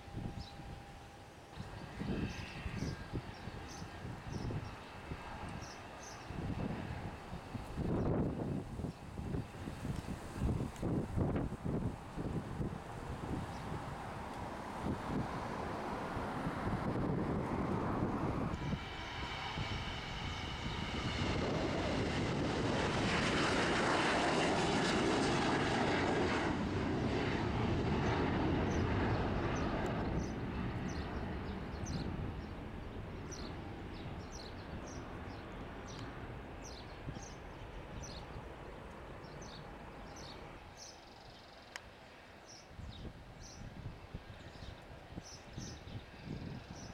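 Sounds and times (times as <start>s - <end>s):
jet airliner passing: 0.0s - 46.9s.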